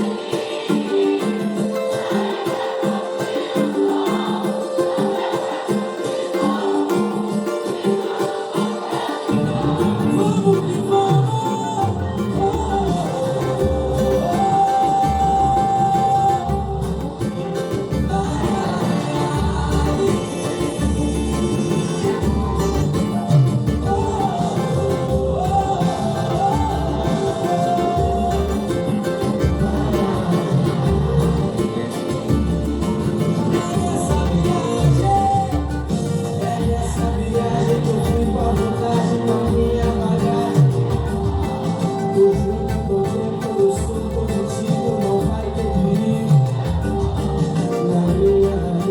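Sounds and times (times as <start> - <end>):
bass and percussion beat: 0.0 - 48.9
strummed cavaquinho: 0.0 - 48.9
melody line: 1.3 - 48.9.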